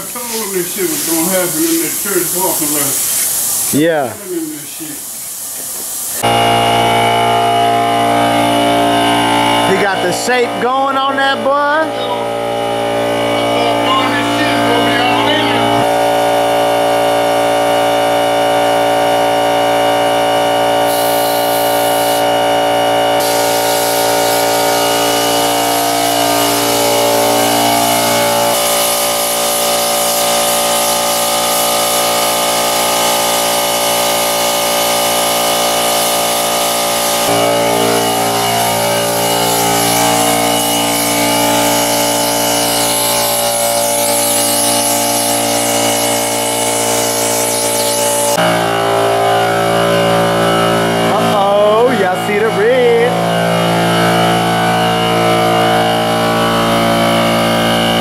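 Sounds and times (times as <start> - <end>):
handheld power tool running: 5.5 - 10.7, 11.9 - 58.0.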